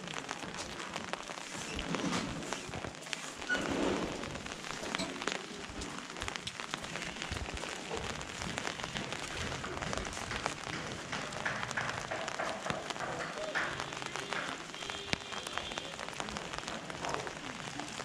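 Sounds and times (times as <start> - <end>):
rain pattering on an umbrella: 0.0 - 18.0.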